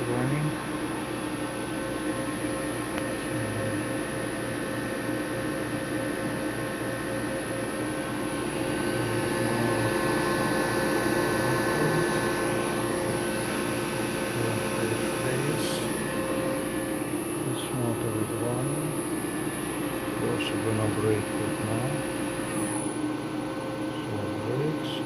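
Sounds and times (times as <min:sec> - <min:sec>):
electric motor humming: 0:00.0 - 0:25.0.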